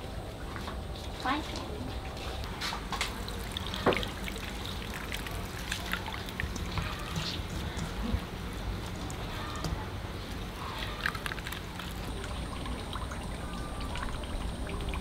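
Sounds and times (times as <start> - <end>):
liquid trickling through sieve: 0.4 - 15.0.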